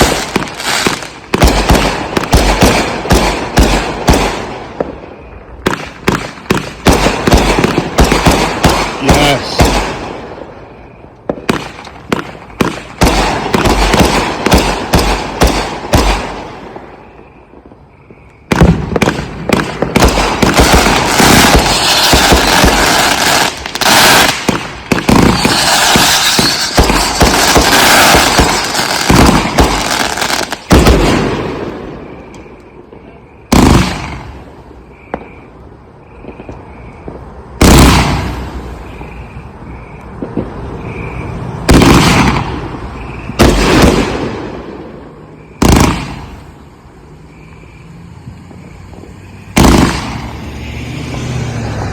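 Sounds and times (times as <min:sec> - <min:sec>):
loud firework booms: 0:00.0 - 0:46.6, 0:48.6 - 0:50.6
fireworks crackling barrage: 0:00.0 - 0:51.9.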